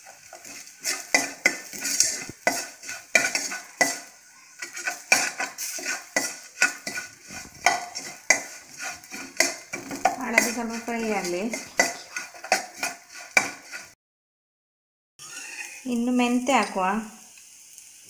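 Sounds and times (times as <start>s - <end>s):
frying sizzle in oil: 0.0s - 14.0s, 15.2s - 18.0s
spoon scraping a metal pan: 0.0s - 14.0s, 15.2s - 15.9s.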